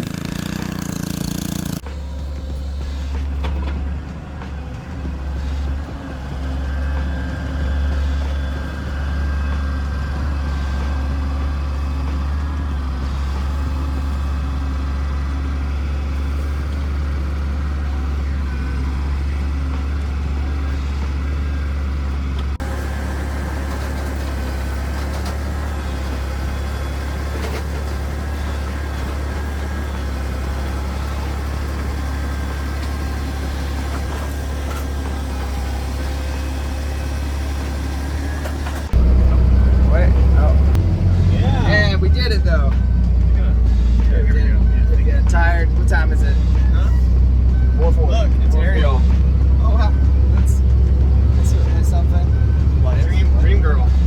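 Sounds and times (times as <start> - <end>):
large engine droning: 0.0 - 54.0.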